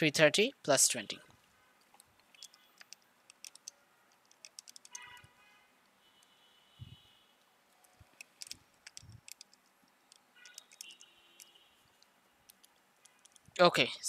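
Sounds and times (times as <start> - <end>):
faint irregular clicking and tapping: 1.3 - 13.6.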